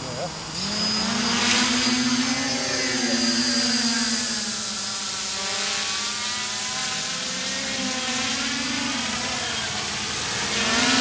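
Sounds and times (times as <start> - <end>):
quadcopter propellers whirring: 0.0 - 11.0
steady high whine: 0.0 - 11.0.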